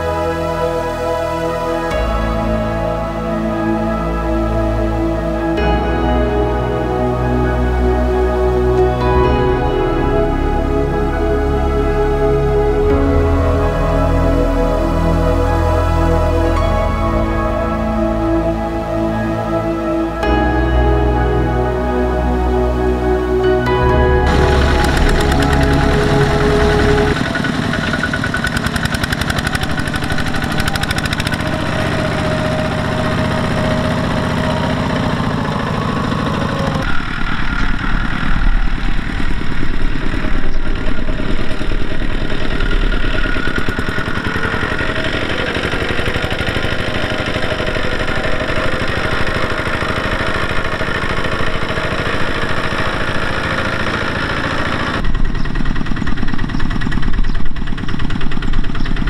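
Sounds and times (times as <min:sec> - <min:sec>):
diesel tractor engine pulsing: 0:00.0 - 0:59.0.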